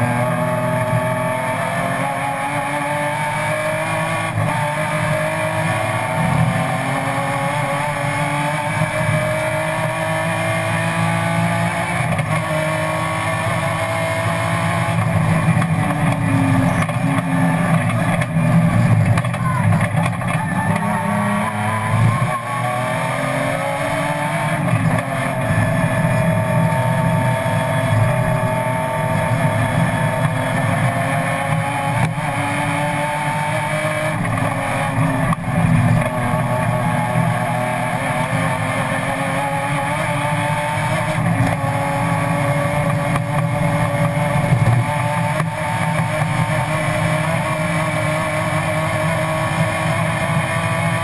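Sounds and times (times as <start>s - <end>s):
race car engine from inside cabin: 0.0s - 51.0s.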